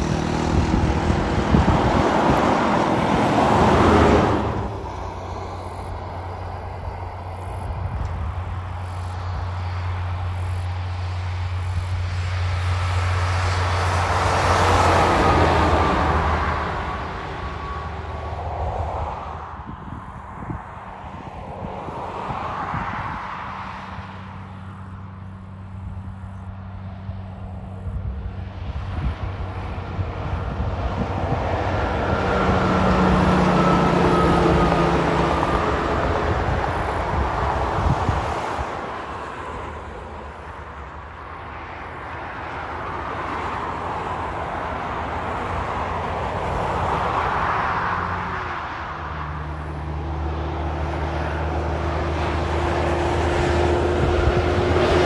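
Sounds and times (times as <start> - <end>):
truck diesel engine hum: 0.0 - 22.1, 24.0 - 55.0
highway traffic passing: 0.0 - 55.0
tyres rushing on road: 0.0 - 55.0.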